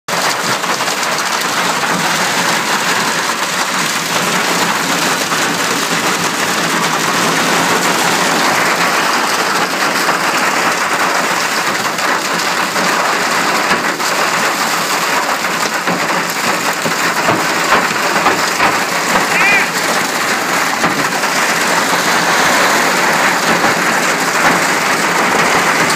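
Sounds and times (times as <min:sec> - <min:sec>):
hail and rain pelting vehicle: 0:00.1 - 0:25.9.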